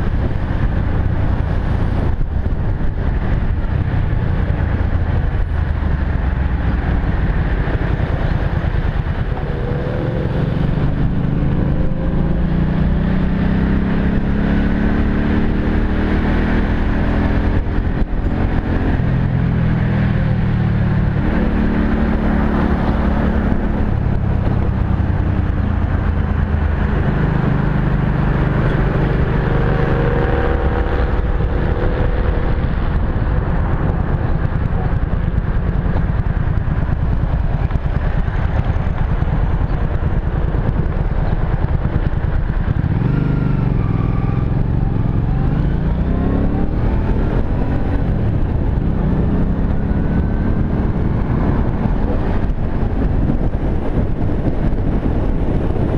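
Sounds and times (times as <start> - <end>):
motorcycle engine running: 0.0 - 55.9
wind rushing past microphone: 0.0 - 55.9.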